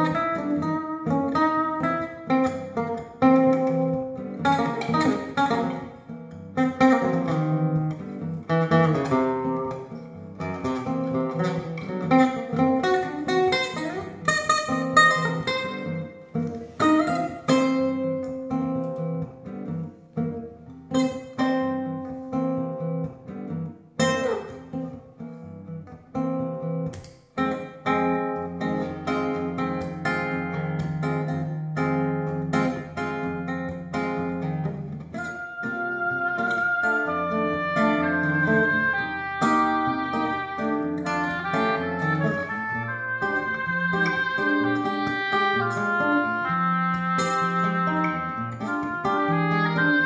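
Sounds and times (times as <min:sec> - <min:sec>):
classical guitar playing solo: 0:00.0 - 0:50.0.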